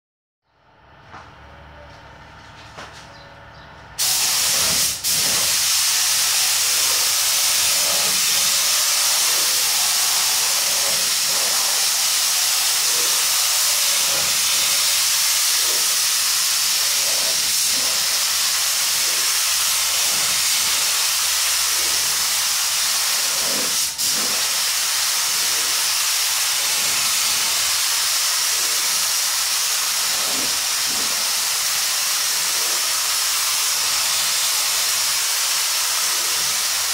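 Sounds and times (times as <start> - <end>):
spray gun hissing: 4.0 - 36.9.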